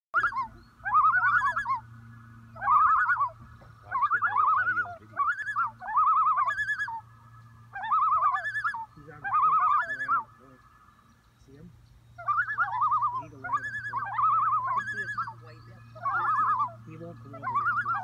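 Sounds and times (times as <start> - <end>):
loons tremolo calls: 0.2 - 18.0.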